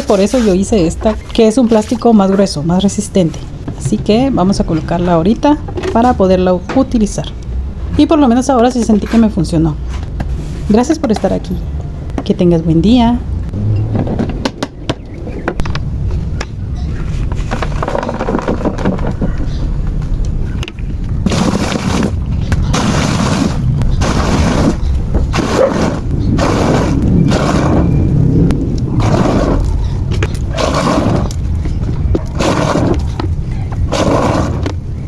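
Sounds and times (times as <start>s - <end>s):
low handling noise: 0.0s - 35.0s.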